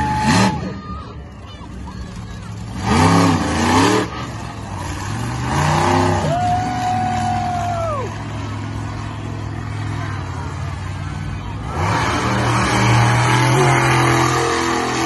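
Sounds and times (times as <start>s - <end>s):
truck engine revving hard: 0.0s - 1.0s, 2.2s - 15.0s.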